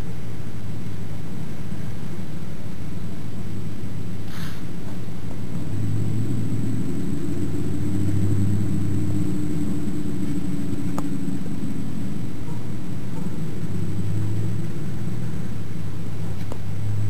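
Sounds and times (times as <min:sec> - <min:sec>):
low motor-like drone: 0:00.0 - 0:17.0.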